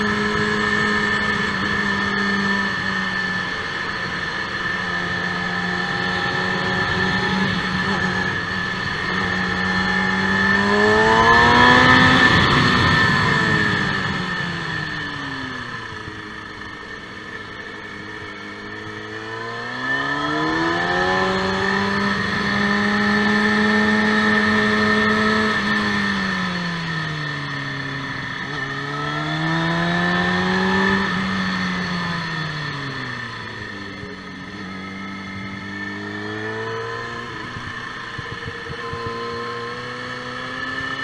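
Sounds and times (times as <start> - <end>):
motorcycle engine: 0.0 - 41.0.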